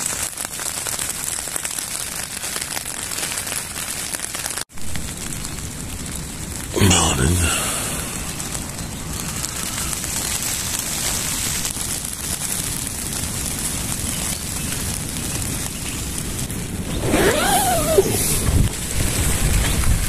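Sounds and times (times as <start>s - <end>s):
rain falling on a tent: 0.0s - 20.0s.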